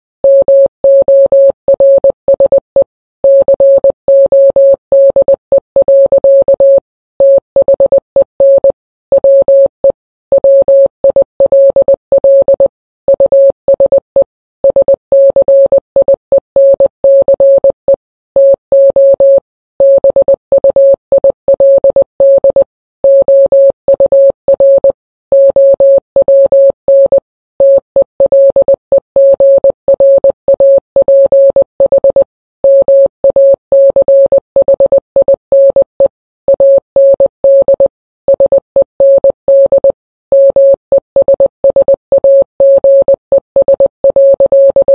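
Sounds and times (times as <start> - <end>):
morse code beeps: 0.2 - 44.9.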